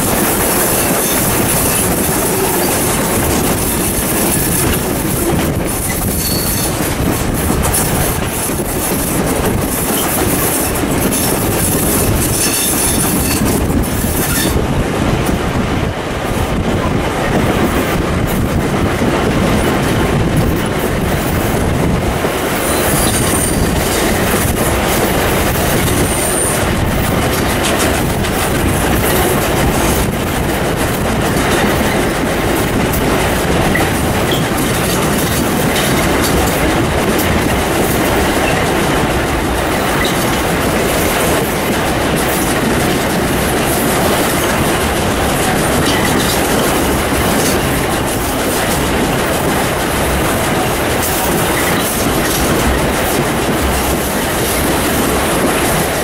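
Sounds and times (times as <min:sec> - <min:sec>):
carriage wheels on rails: 0:00.0 - 0:14.6, 0:22.4 - 0:56.0.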